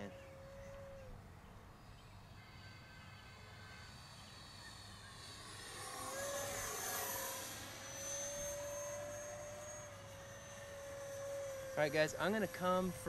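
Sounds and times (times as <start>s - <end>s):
model jet fan whining: 0.0s - 13.0s.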